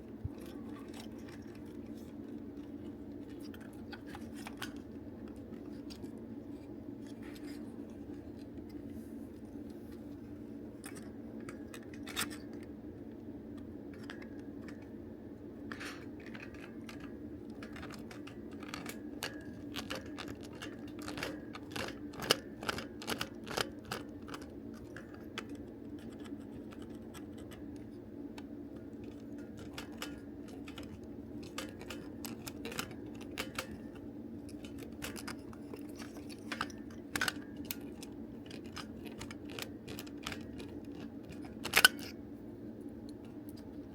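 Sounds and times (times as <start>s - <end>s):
steady low hum: 0.0s - 43.9s
plastic parts clicking and scraping: 0.1s - 15.0s, 15.6s - 42.2s.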